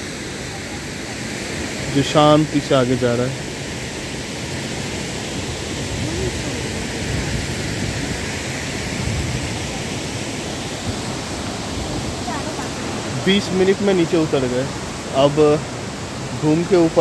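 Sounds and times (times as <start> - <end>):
river flowing: 0.0 - 17.0
waterfall rushing: 0.0 - 17.0.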